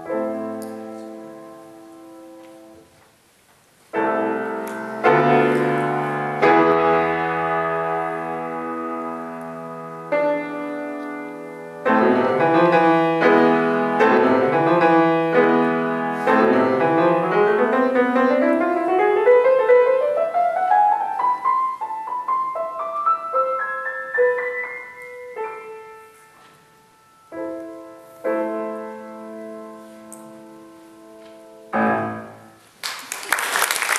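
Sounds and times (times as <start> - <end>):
solo grand piano: 0.0 - 33.9.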